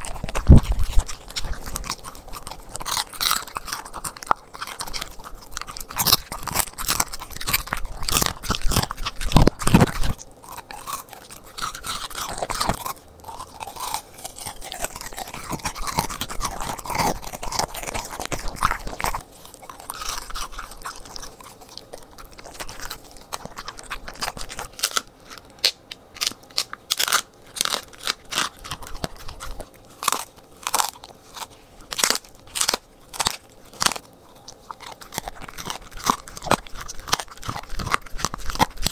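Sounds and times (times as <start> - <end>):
dog chewing and crunching food: 0.0 - 38.9.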